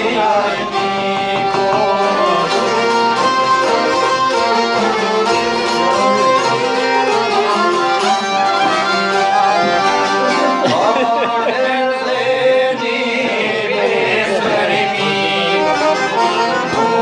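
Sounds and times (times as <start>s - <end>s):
accordion: 0.0s - 17.0s
strummed lutes: 0.0s - 17.0s
violin melody: 0.0s - 17.0s.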